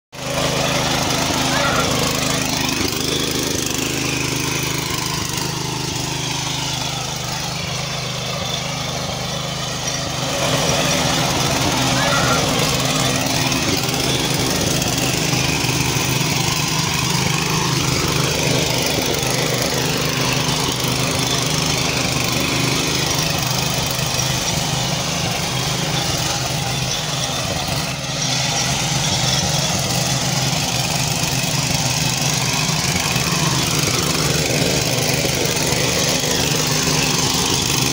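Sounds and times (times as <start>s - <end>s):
petrol engine running: 0.1s - 37.9s
rotary tines tilling soil: 0.2s - 37.9s.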